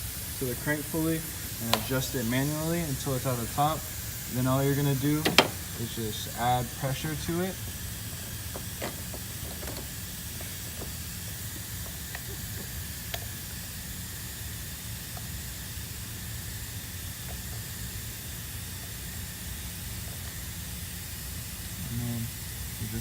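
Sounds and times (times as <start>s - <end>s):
compressed air hissing: 0.0s - 23.0s.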